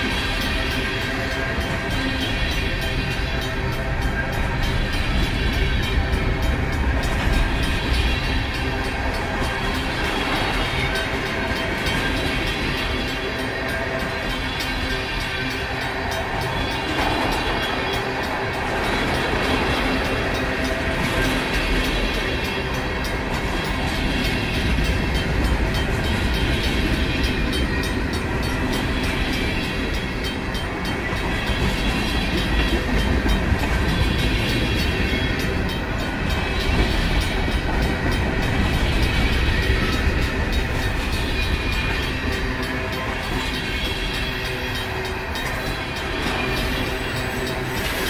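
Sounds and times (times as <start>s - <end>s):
crossing bell ringing: 0.0s - 48.0s
freight train wheels rolling: 0.0s - 48.0s.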